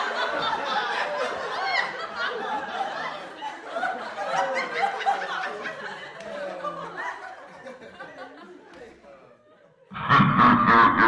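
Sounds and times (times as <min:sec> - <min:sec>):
group of people laughing: 0:00.0 - 0:11.0.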